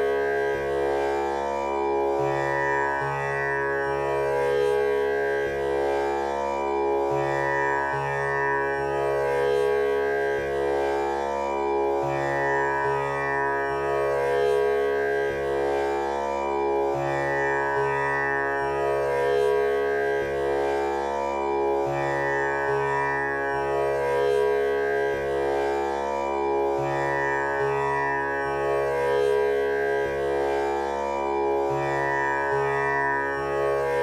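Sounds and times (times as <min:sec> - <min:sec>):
tanpura drone: 0:00.0 - 0:34.0.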